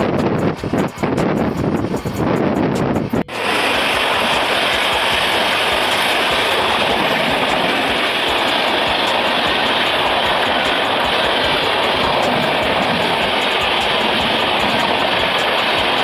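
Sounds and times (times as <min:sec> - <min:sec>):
train passing with wheel clatter: 0:00.0 - 0:16.0
wind buffeting microphone: 0:00.0 - 0:16.0.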